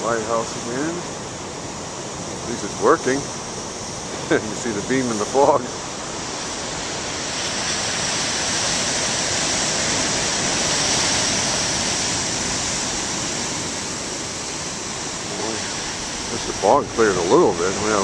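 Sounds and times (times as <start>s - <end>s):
ocean waves breaking on rocks: 0.0s - 18.0s.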